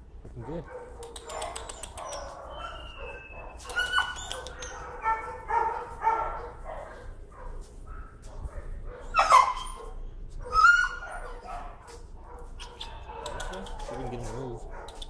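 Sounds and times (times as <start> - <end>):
dog yelping: 0.7 - 6.9, 8.9 - 15.0.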